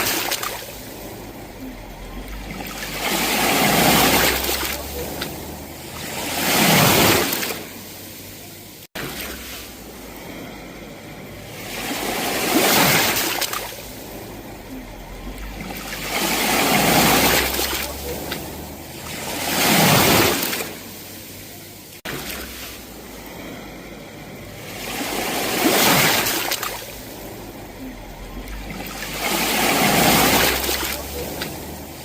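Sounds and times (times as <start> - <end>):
sea waves washing onto shore: 0.0 - 32.0.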